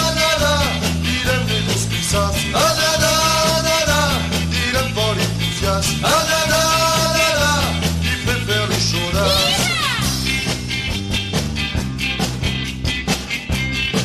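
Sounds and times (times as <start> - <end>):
bass and drum beat: 0.0 - 14.0.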